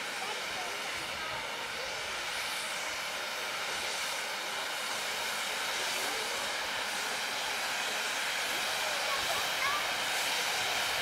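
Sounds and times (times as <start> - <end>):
firework fountains hissing: 0.0 - 11.0.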